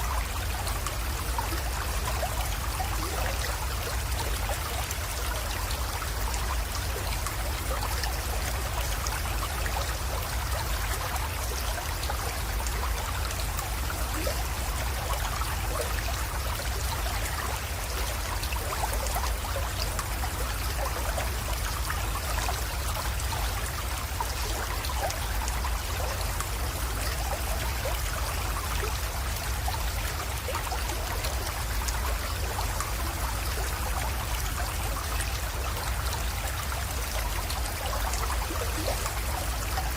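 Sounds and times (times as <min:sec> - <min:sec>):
creek trickling into a pond: 0:00.0 - 0:39.9.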